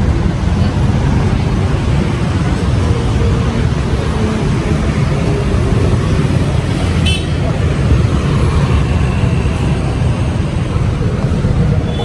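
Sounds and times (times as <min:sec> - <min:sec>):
cars and motorbikes passing: 0:00.0 - 0:12.0.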